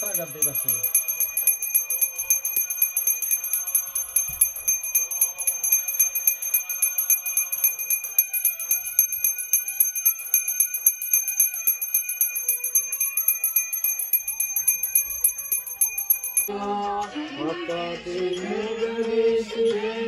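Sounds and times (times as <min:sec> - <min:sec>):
small brass hand bell ringing: 0:00.0 - 0:16.5.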